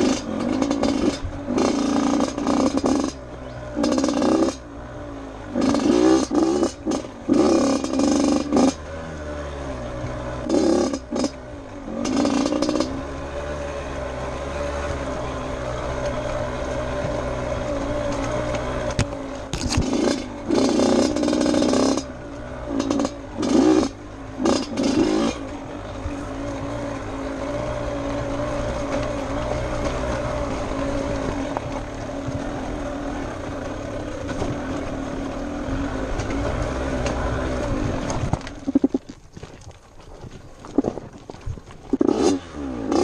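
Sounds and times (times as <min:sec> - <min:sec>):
dirt bike engine revving: 0:00.0 - 0:39.0, 0:41.9 - 0:43.0.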